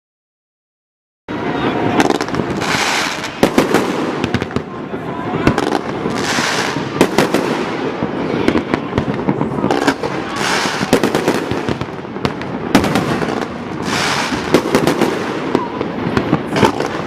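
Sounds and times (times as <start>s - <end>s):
fireworks bangs and booms: 1.3s - 17.0s
fireworks hissing crackle: 1.3s - 17.0s.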